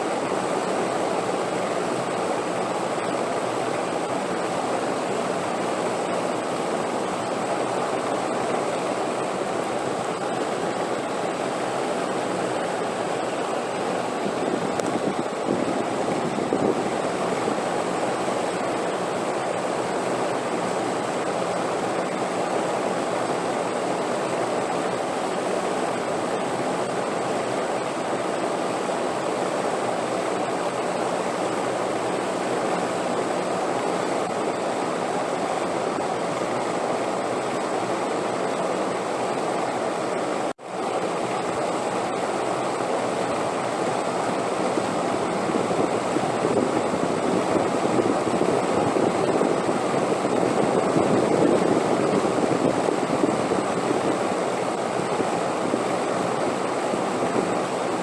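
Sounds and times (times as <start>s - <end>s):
rushing wind: 0.0s - 58.0s.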